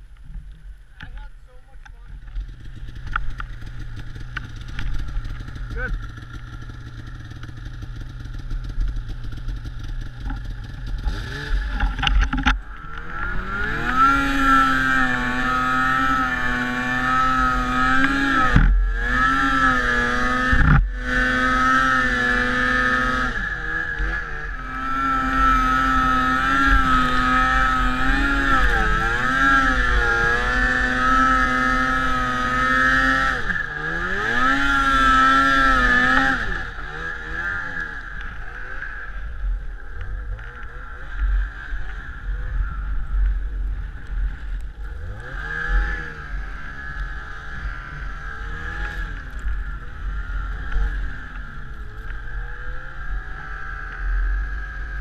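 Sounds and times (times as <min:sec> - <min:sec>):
snowmobile engine revving: 0:01.5 - 0:55.0.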